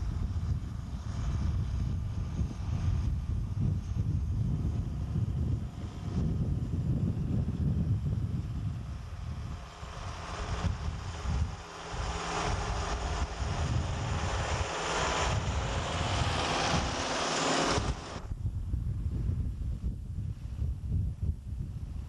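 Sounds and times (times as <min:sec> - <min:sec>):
tractor engine running under load: 0:00.0 - 0:18.3.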